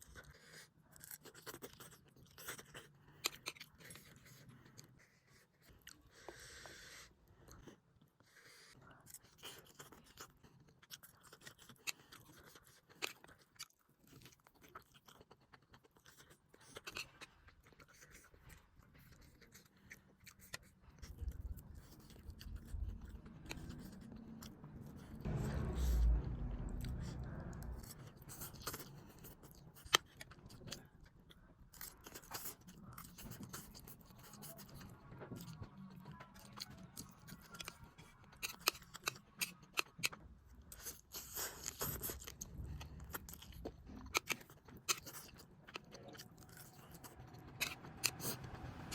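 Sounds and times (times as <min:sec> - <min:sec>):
chewing and wet mouth noises: 0:00.0 - 0:25.1, 0:28.5 - 0:48.9.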